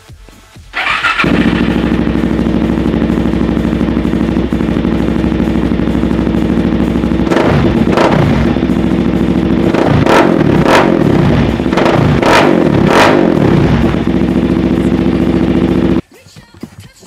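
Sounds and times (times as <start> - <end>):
quad engine idling and revving: 0.8 - 16.0.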